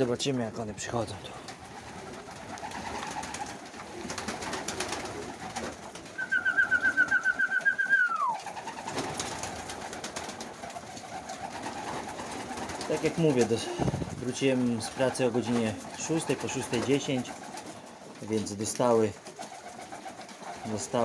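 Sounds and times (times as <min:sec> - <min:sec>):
pigeons cooing: 0:00.7 - 0:18.2
wing flaps: 0:01.3 - 0:21.0.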